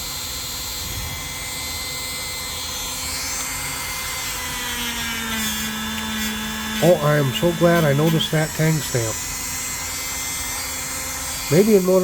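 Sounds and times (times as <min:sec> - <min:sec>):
small power tool motor: 0:00.0 - 0:12.0.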